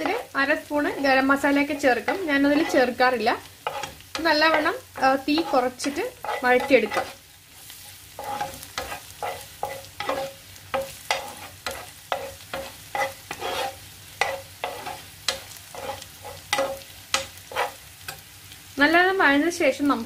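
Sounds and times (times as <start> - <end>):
faint sizzle of frying: 0.0 - 20.0
spoon scraping a frying pan: 0.9 - 18.3.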